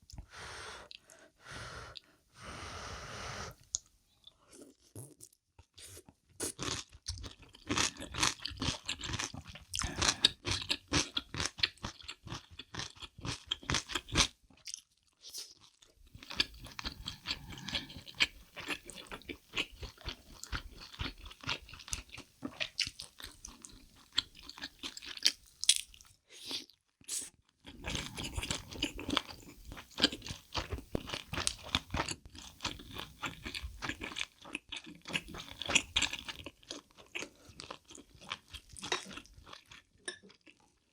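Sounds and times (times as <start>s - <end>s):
crunchy bites and wet chewing: 6.4s - 26.7s, 27.6s - 40.8s.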